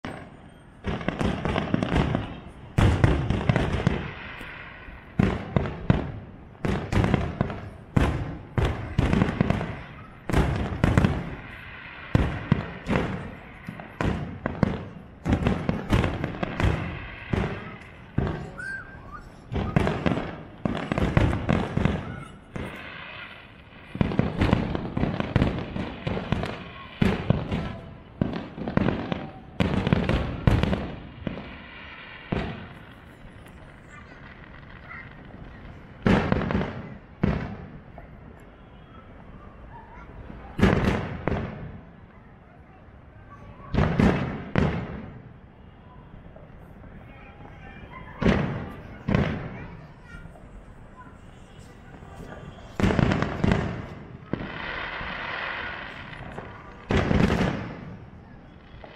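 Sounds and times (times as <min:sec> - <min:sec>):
fireworks bursting with echoes: 0:00.0 - 0:58.9.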